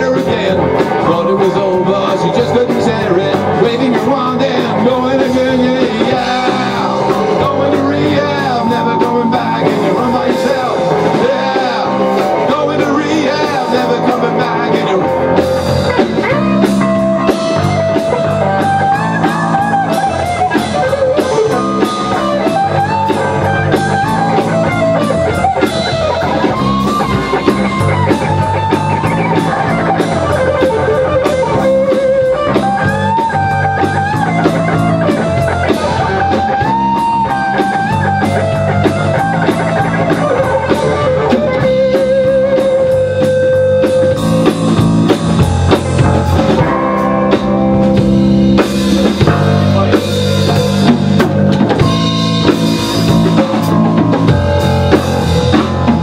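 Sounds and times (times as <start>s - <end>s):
bass guitar: 0.0s - 56.0s
drum kit: 0.0s - 56.0s
lead electric guitar: 0.0s - 56.0s.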